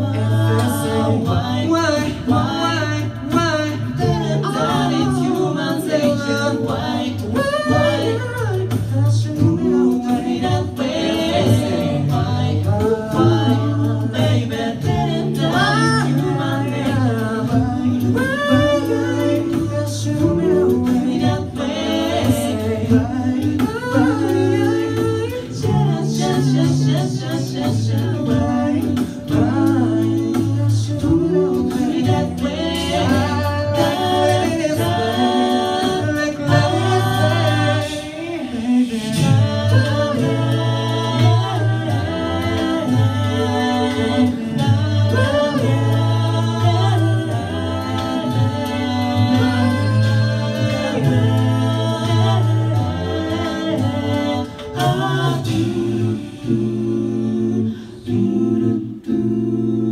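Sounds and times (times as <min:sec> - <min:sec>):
sung bass line: 0:00.0 - 0:59.9
vocal percussion: 0:00.0 - 0:59.9
voices singing in close harmony: 0:00.0 - 0:59.9.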